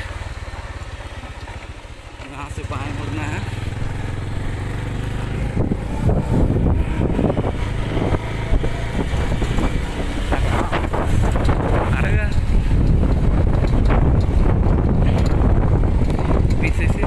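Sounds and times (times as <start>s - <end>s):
motorcycle engine running: 0.0s - 17.0s
wind buffeting microphone: 2.7s - 17.0s.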